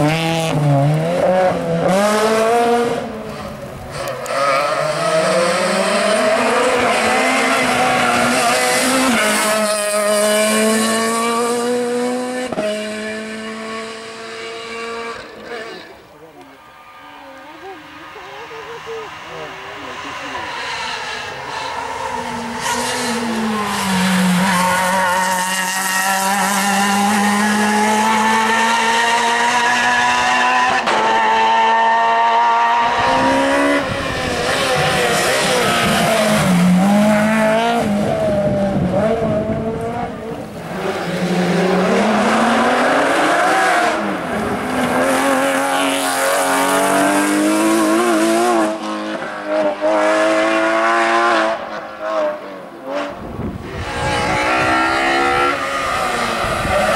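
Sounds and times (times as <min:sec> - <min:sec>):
rally car engines revving past: 0:00.0 - 0:56.9.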